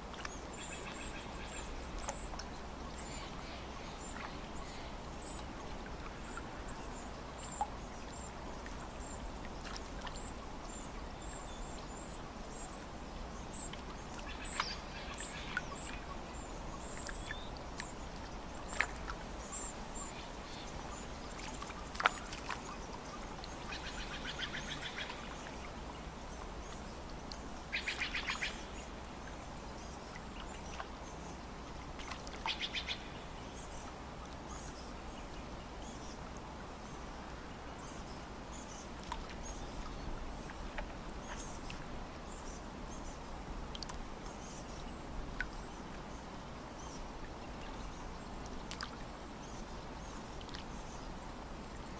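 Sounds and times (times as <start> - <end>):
faint background hiss: 0.0 - 51.9.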